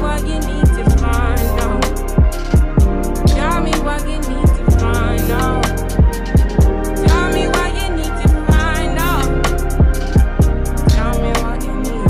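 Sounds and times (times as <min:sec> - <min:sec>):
hip hop beat: 0:00.0 - 0:12.0.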